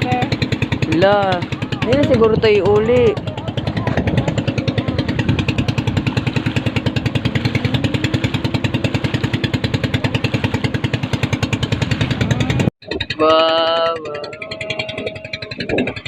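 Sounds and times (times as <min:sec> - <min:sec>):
boat engine chugging: 0:00.0 - 0:16.0.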